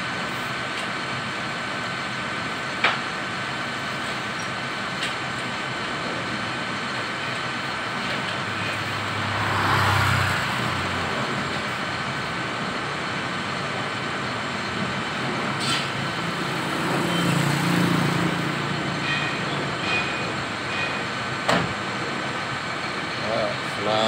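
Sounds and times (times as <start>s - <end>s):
diesel truck engine running: 0.0s - 24.0s
street noise: 0.0s - 24.0s.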